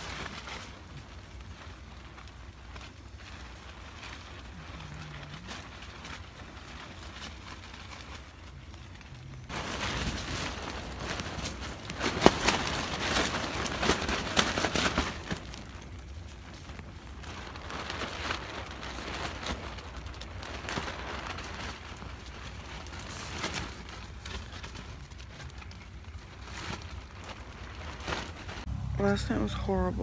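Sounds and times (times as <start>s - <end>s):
tent fabric flapping: 0.0s - 29.9s
low wind rumble: 0.0s - 30.0s.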